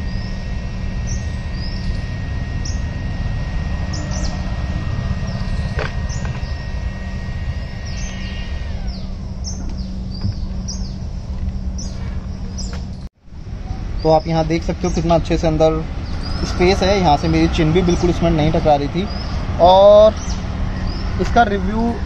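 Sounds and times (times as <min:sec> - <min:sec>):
birds chirping: 0:00.0 - 0:22.0
low rumble: 0:00.0 - 0:22.0
small fan whining: 0:00.0 - 0:22.0.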